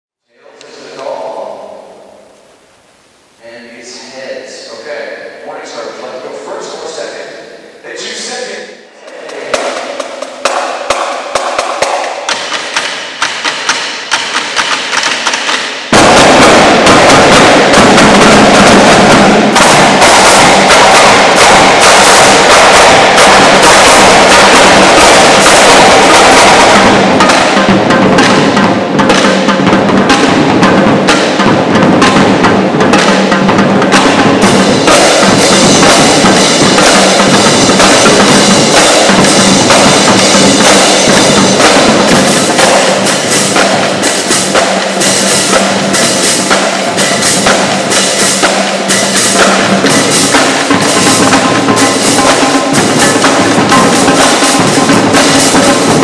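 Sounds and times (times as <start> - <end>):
marching drumline playing: 9.0 - 56.0.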